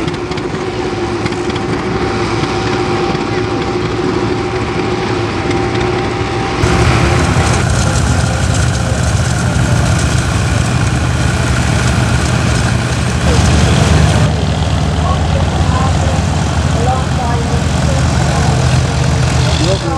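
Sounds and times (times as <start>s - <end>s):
tractor engine running under load: 0.0s - 19.9s.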